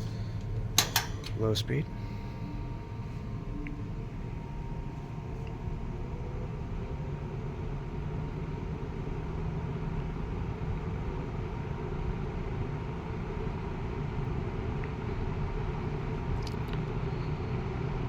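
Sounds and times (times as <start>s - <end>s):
gas furnace rumbling: 0.0s - 18.0s.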